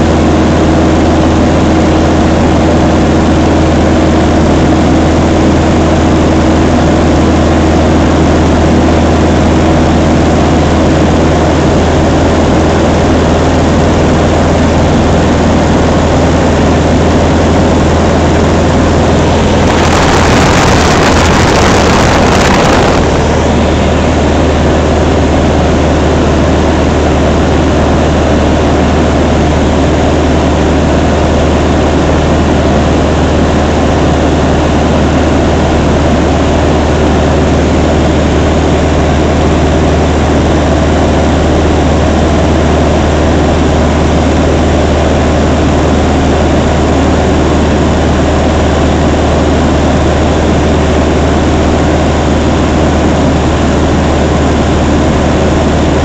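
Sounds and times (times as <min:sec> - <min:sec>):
aircraft engine droning: 0:00.0 - 0:56.0.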